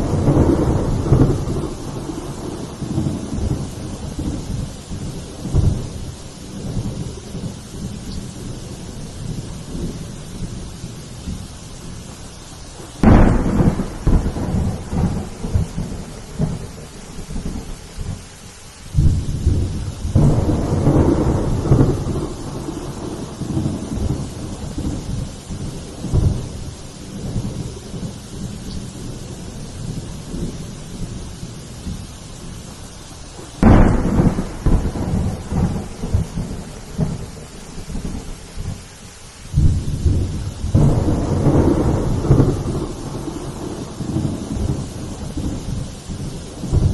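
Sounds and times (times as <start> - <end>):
sharp thunder clap: 0.0 - 8.6, 12.8 - 18.2, 18.9 - 32.5, 33.4 - 38.8, 39.5 - 46.9
heavy rain: 0.0 - 46.9
thunder rumble: 0.0 - 46.9.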